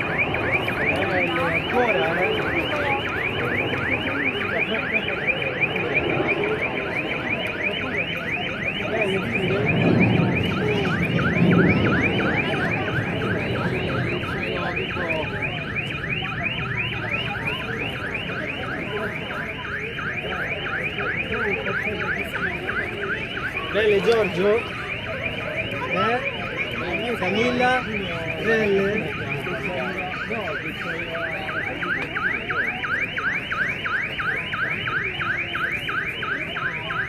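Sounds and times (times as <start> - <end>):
electronic alarm chirps: 0.0 - 37.0.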